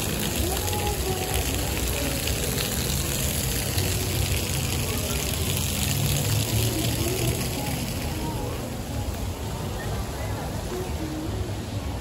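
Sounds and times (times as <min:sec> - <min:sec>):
fountain jets splashing on paving: 0:00.0 - 0:12.0.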